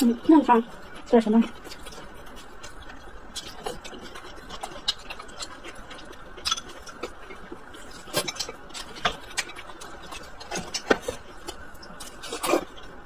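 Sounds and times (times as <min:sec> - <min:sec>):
person chewing food: 0:00.1 - 0:13.0.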